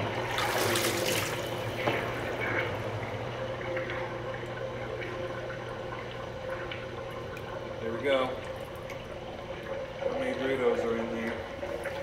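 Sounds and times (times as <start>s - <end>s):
toilet flushing water rushing: 0.0s - 12.0s.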